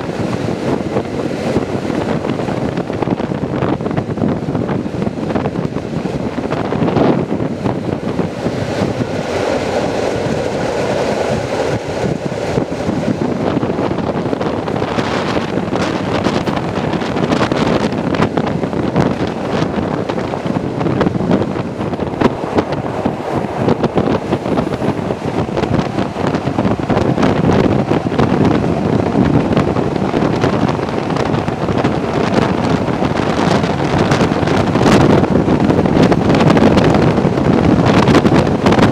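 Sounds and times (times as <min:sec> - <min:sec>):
train wheels clattering on rails: 0:00.0 - 0:38.9
wind rushing over microphone: 0:00.0 - 0:38.9.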